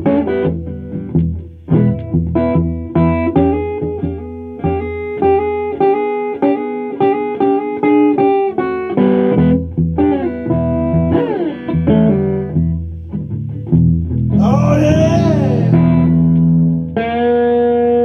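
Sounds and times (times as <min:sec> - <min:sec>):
electric guitar chords: 0:00.0 - 0:18.0.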